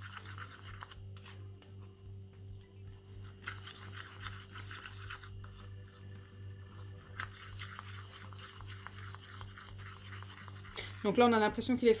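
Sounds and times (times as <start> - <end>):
slime squishing and scraping: 0.0 - 1.8, 2.9 - 11.6.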